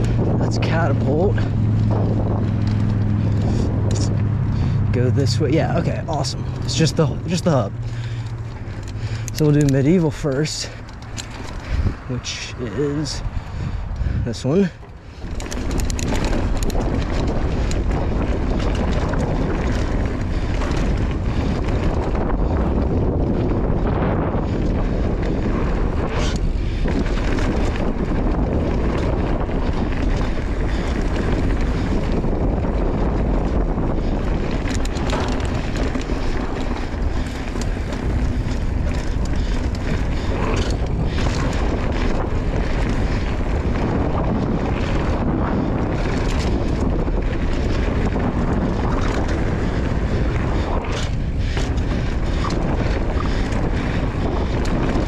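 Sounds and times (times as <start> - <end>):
bike clattering over bumps: 0.0 - 55.0
wind rush over microphone: 0.0 - 55.0.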